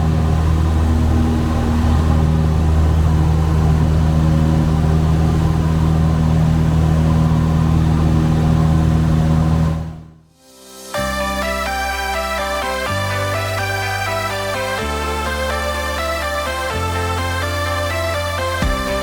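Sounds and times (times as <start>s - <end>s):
propeller plane engine: 0.0s - 10.2s, 11.0s - 19.0s.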